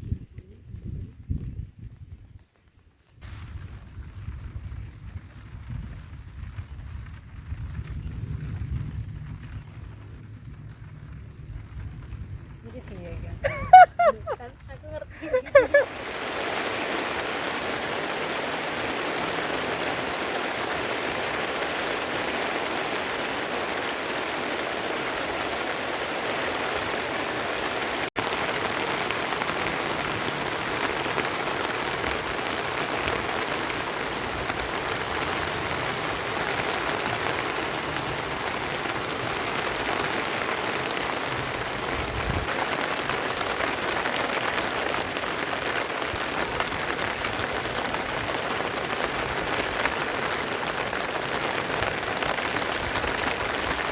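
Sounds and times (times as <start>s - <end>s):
steady rain falling: 1.9s - 53.9s.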